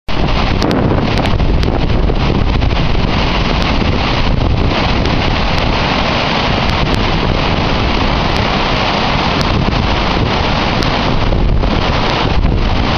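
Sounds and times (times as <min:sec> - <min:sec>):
rush of water down spillway: 0:00.1 - 0:12.9
wind buffeting microphone: 0:00.1 - 0:12.9.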